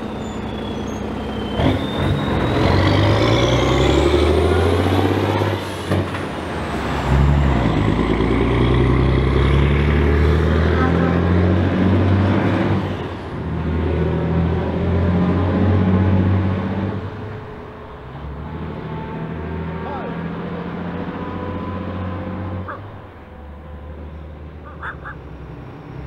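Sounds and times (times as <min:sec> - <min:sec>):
truck diesel engine pulling away: 0:00.0 - 0:26.0.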